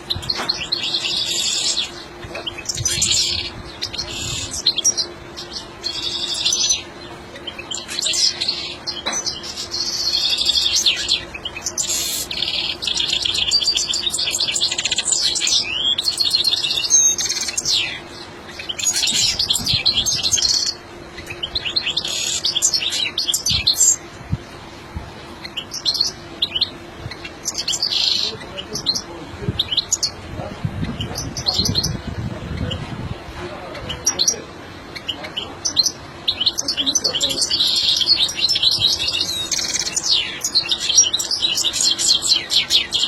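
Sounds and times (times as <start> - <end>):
finch singing: 0.0 - 24.2, 25.3 - 32.9, 33.6 - 43.0.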